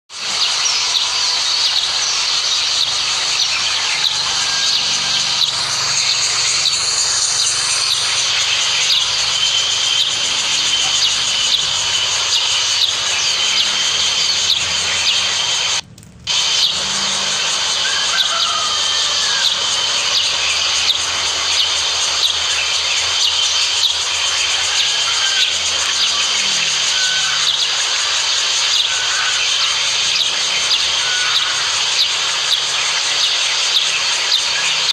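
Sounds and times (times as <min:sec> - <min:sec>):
birds chirping: 0:00.1 - 0:34.9
steady high-pitched hiss: 0:00.1 - 0:34.9.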